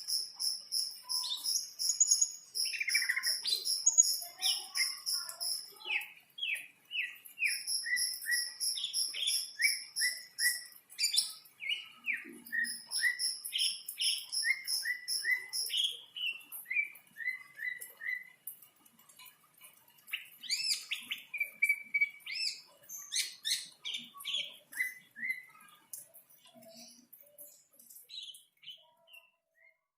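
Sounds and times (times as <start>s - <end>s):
bird singing chirps and trills: 0.0s - 29.9s.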